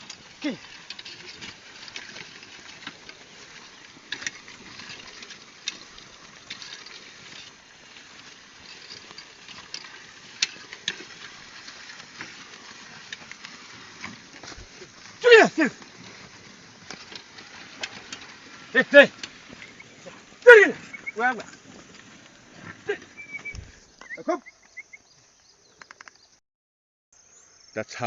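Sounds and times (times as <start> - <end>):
plough clicks and knocks: 0.0 - 22.8
soil rustling: 0.0 - 26.1.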